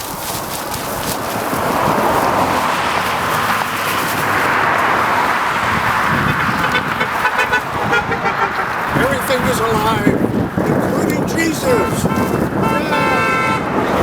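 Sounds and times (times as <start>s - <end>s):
vehicle tyre and engine noise: 0.0s - 14.0s.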